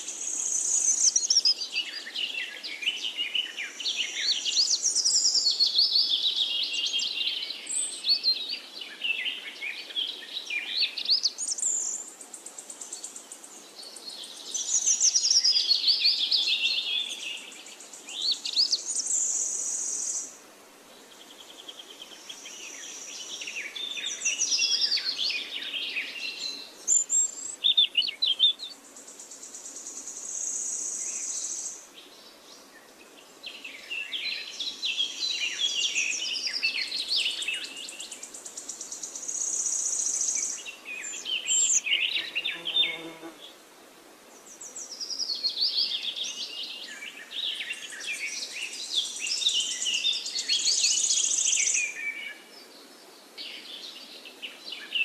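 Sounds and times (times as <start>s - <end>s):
forest birds singing: 0.0s - 55.0s.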